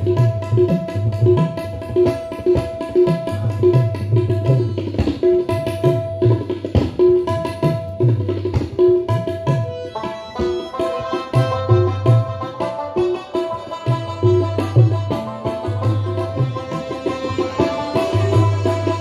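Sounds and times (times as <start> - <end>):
tabla playing steady rhythm: 0.0 - 19.0.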